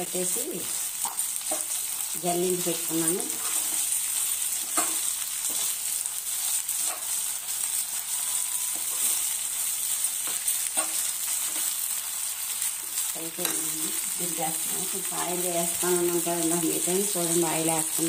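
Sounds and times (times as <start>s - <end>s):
leaves sizzling in oil: 0.0s - 18.0s.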